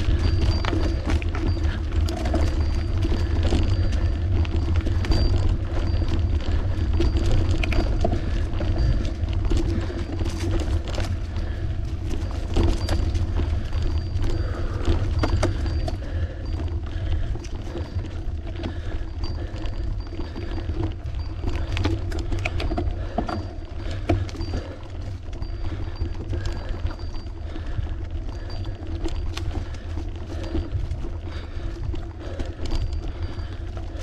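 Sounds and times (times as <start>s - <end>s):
bicycle road noise: 0.0s - 34.0s
small clicks and rattles: 0.0s - 34.0s
wind rumble on microphone: 0.0s - 34.0s.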